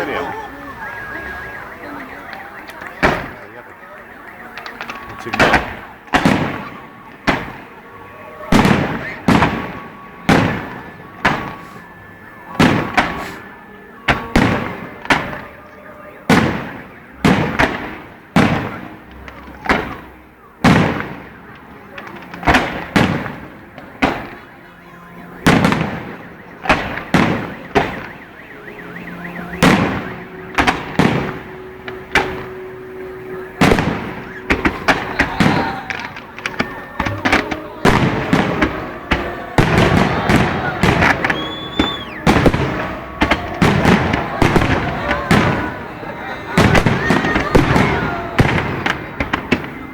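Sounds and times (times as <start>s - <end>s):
fireworks bursting with echo: 0.0s - 49.9s.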